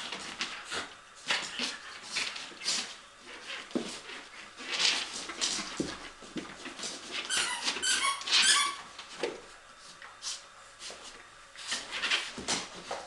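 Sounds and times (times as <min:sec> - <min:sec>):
dogs scuffling and breathing: 0:00.0 - 0:13.0.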